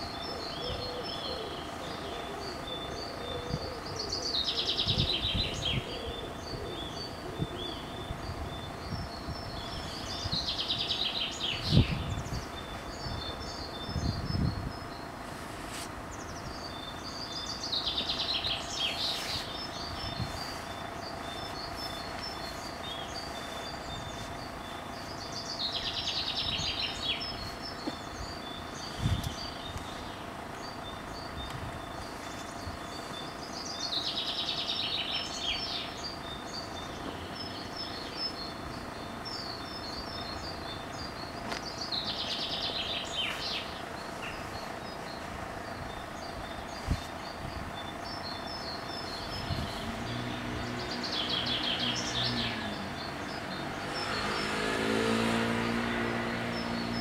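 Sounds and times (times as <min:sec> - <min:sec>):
light bird chirping: 0:00.0 - 0:57.0
songbird singing: 0:00.0 - 0:57.0.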